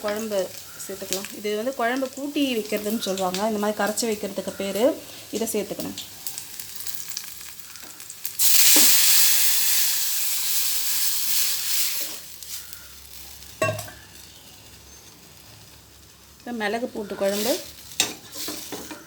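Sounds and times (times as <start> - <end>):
liquid sizzling in hot oil: 0.0 - 19.0.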